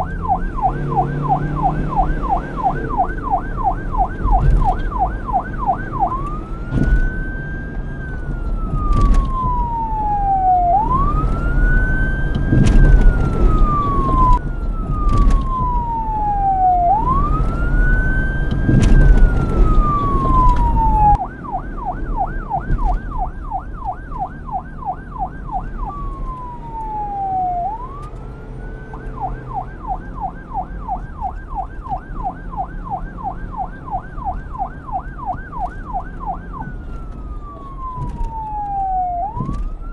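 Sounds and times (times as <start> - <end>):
police siren: 0.0 - 39.9.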